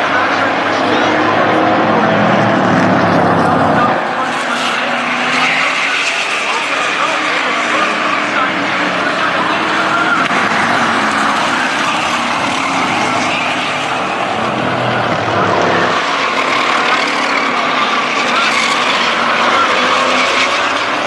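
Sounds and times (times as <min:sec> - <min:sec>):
race truck engines roaring: 0:00.0 - 0:21.0.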